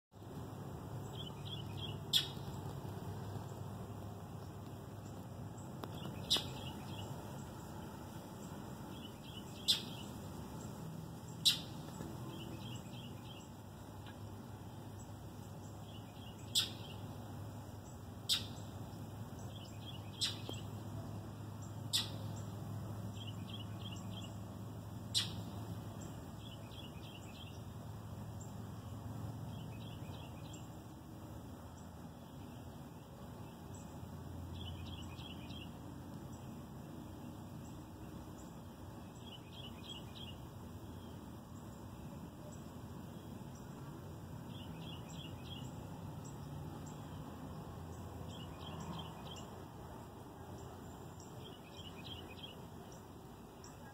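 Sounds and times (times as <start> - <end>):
birds chirping: 0.2 - 53.9
steady low hum: 0.2 - 53.9.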